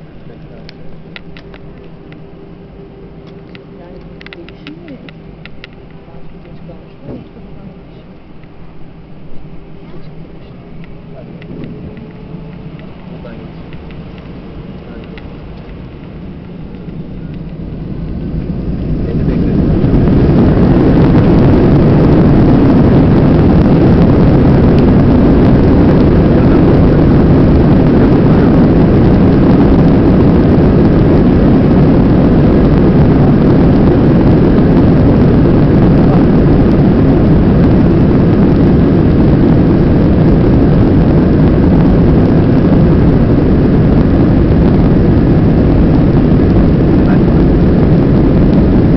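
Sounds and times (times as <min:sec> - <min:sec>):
jet engines at takeoff thrust: 0:00.0 - 0:48.9.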